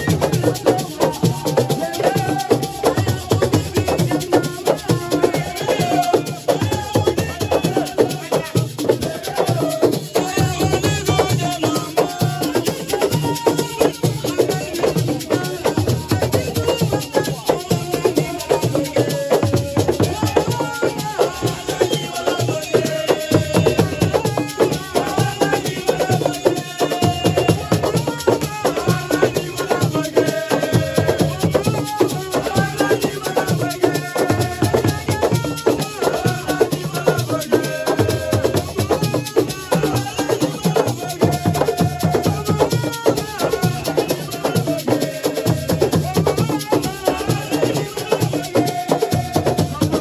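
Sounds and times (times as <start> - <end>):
percussion rhythm: 0.0 - 50.0
singing voices: 0.0 - 50.0.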